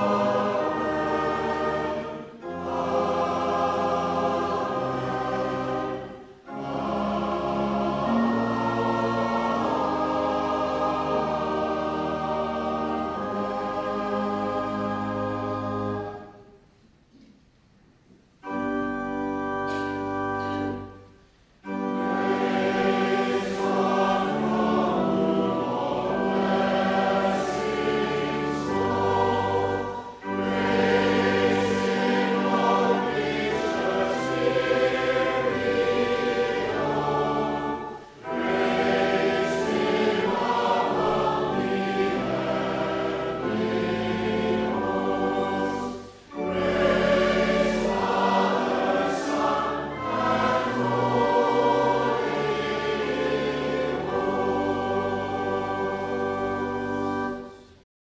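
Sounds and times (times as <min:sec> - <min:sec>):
organ accompaniment: 0:00.0 - 0:16.6, 0:18.3 - 0:57.8
choir singing: 0:00.0 - 0:16.7, 0:18.4 - 0:57.8.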